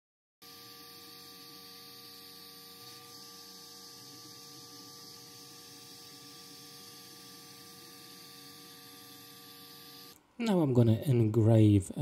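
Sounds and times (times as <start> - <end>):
laser engraver humming: 0.4 - 10.4.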